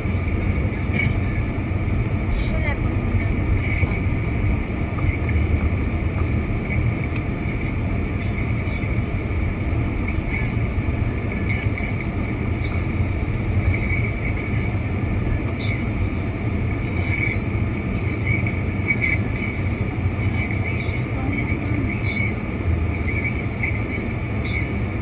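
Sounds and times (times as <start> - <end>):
vehicle rumble in motion: 0.0 - 25.0.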